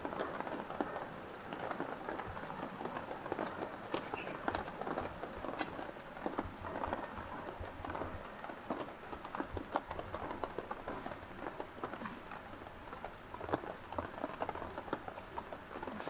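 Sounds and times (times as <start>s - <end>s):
dog paws pattering on mat: 0.0s - 16.0s.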